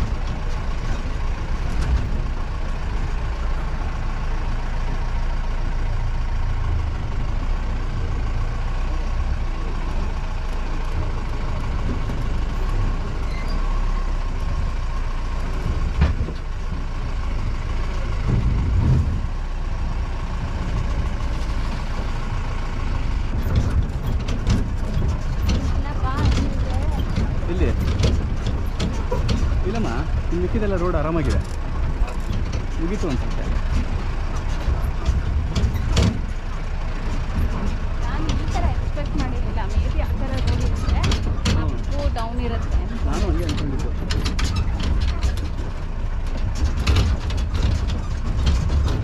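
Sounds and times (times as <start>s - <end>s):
off-road vehicle engine rumbling: 0.0s - 49.0s.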